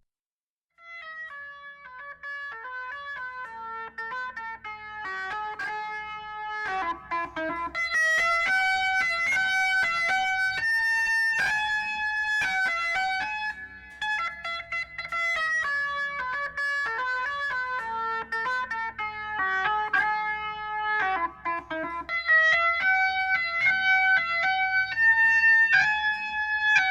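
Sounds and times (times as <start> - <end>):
electric guitar melody: 1.2 - 26.9.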